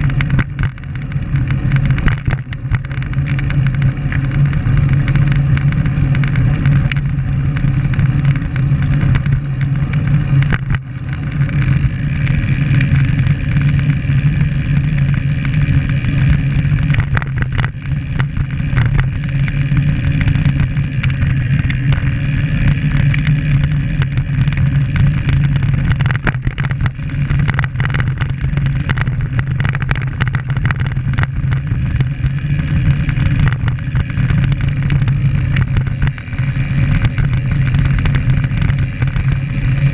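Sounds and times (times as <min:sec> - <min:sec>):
bicycle road noise: 0:00.0 - 0:39.9
wind rumble: 0:00.0 - 0:39.9.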